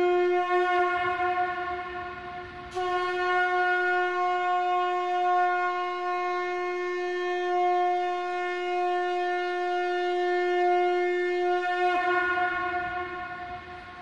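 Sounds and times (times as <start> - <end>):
conch shell blown: 0.0 - 14.0.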